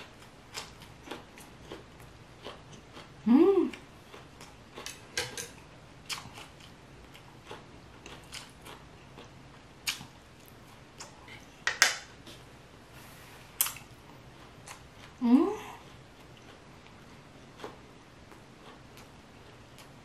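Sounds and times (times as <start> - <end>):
chewing food: 0.0 - 11.6, 13.6 - 20.0.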